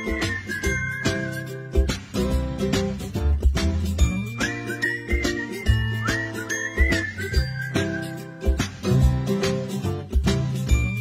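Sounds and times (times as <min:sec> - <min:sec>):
drum beat: 0:00.0 - 0:11.0.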